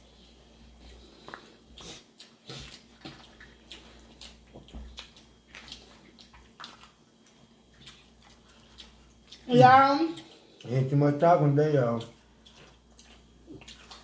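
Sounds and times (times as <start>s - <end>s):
wet chewing and lip smacks: 0.5s - 9.5s, 10.1s - 10.8s, 11.8s - 14.0s.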